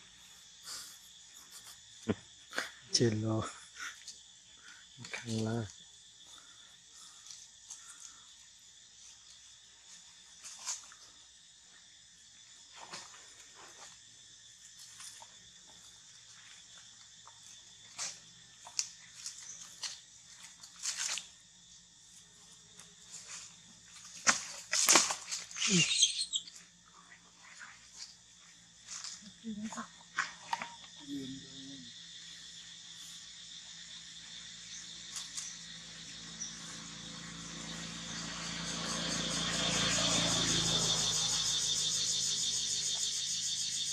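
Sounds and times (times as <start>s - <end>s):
insect chorus buzzing: 0.0s - 43.9s.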